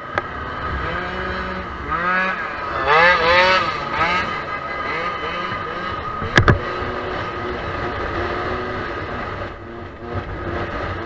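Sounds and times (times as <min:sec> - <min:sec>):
road noise: 0:00.0 - 0:11.0
scooter engine revving: 0:00.0 - 0:11.0.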